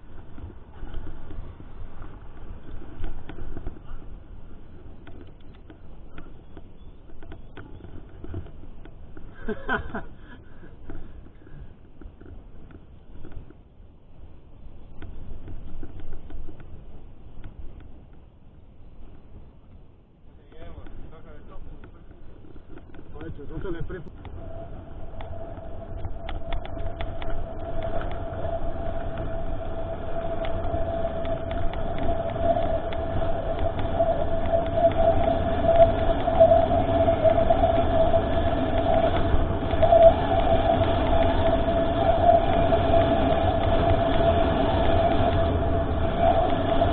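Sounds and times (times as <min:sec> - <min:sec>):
low rumble: 0:00.0 - 0:13.2, 0:13.9 - 0:46.9
mountain bike rattling: 0:00.0 - 0:13.6, 0:20.4 - 0:46.9
wind: 0:00.0 - 0:46.9.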